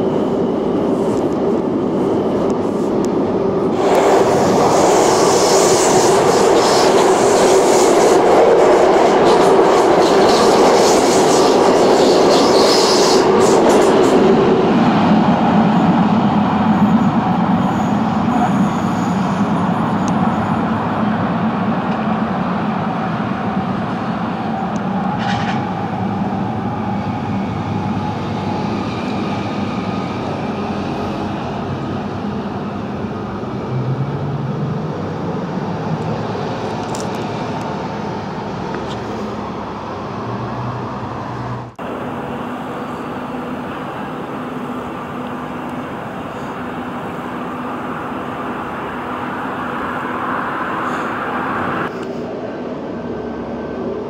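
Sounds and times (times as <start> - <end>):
road and rail traffic noise: 0.0 - 54.0.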